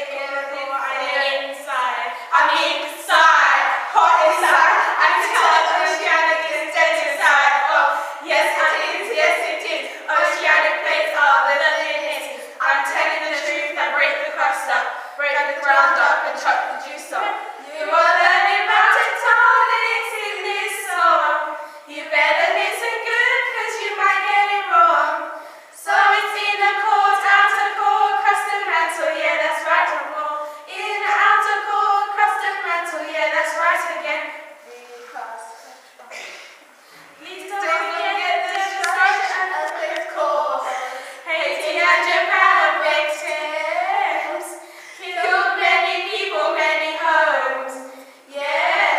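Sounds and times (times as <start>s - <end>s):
girls singing unaccompanied: 0.0s - 48.9s.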